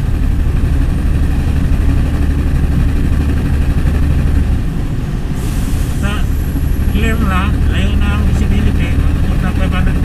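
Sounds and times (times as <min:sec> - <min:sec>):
heavy engine humming: 0:00.0 - 0:10.0.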